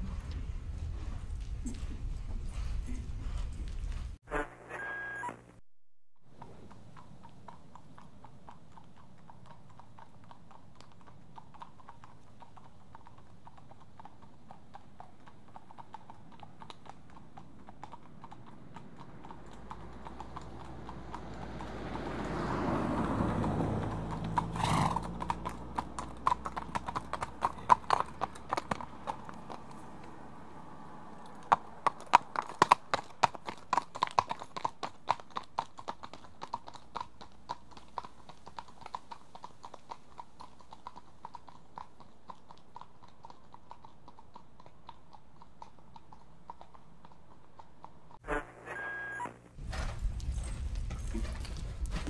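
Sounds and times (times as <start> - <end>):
horse hooves clip-clopping: 0.0 - 4.2, 6.3 - 48.3, 49.6 - 52.0.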